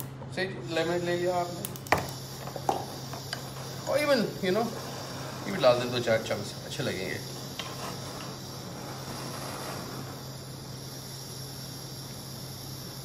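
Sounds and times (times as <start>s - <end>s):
high hiss: 0.6s - 13.0s.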